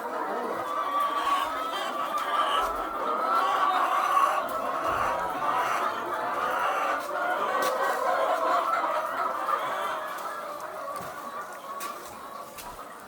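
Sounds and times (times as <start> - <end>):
flock of chickens clucking: 0.0 - 13.0.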